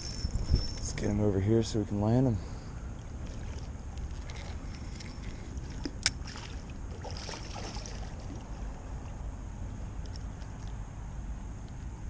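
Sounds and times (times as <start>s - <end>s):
water splashing and sloshing: 0.0s - 11.0s
steady low rumble: 0.0s - 12.0s.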